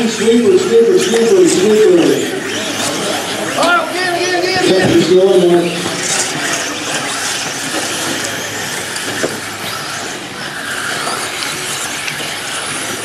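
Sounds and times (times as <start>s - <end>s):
rc buggies racing: 0.0s - 13.0s.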